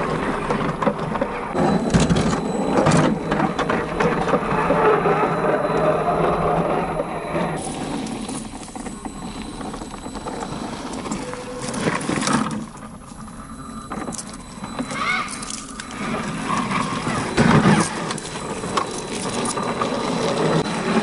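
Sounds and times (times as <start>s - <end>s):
electric motor whirring: 1.6s - 21.0s.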